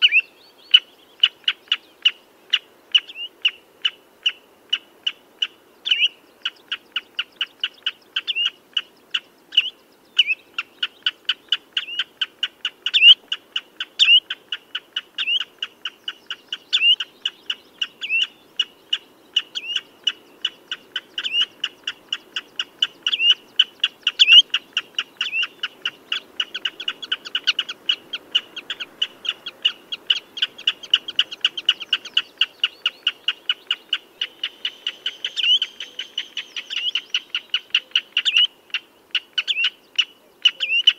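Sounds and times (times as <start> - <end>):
redshank piping calls: 0.0 - 40.9.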